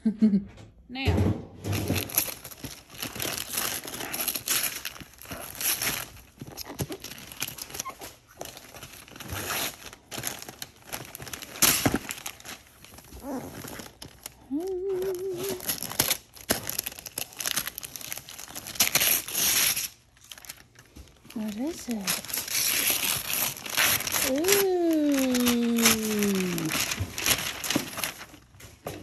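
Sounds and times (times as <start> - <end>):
wrapping paper crinkling and tearing: 1.8 - 29.0.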